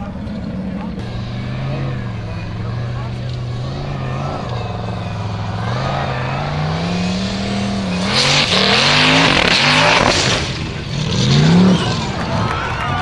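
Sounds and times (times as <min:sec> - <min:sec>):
buggy engine revving hard: 0:00.0 - 0:13.0
loud rushing noise: 0:01.0 - 0:13.0.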